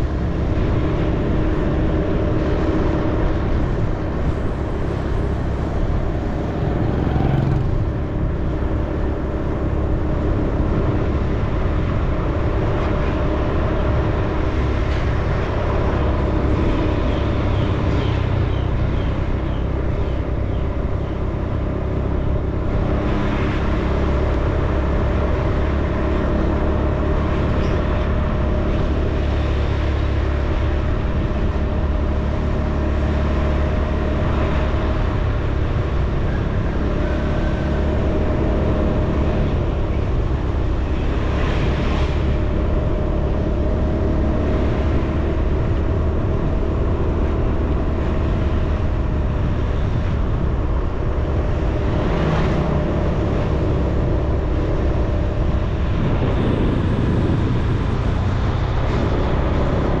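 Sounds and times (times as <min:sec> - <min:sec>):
road noise: 0:00.0 - 1:00.0
vehicle engine running: 0:00.0 - 1:00.0
wind noise: 0:00.0 - 1:00.0.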